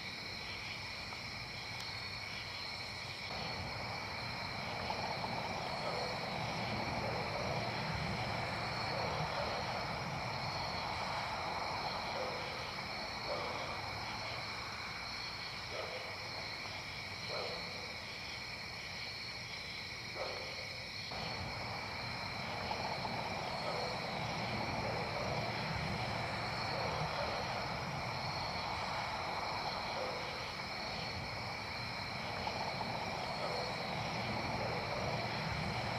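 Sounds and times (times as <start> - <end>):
insect trills: 0.0 - 35.9.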